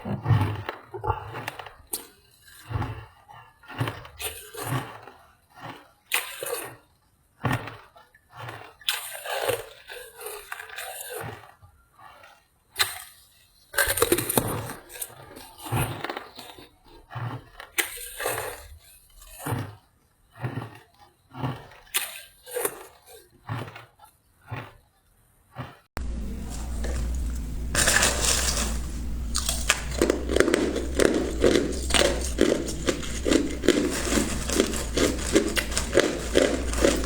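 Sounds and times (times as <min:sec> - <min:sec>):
ice being chewed: 0:00.0 - 0:37.0.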